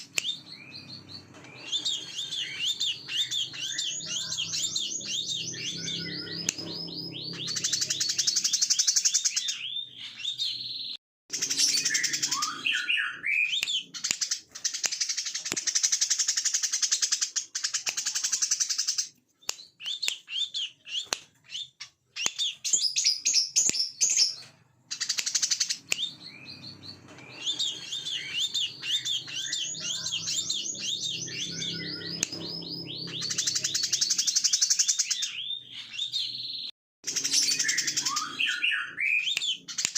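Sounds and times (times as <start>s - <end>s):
bird singing chirps and trills: 0.0s - 16.5s, 17.6s - 39.9s.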